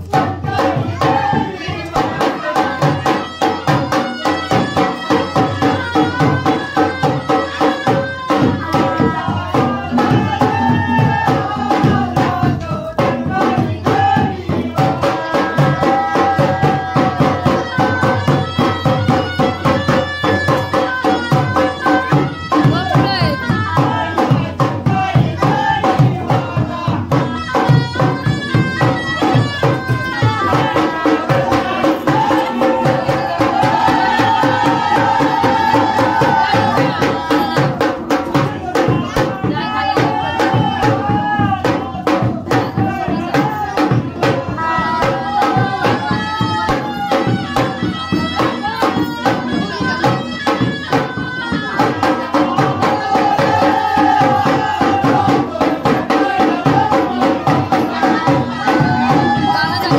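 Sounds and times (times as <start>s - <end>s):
fast dense drumming: 0.0s - 59.9s.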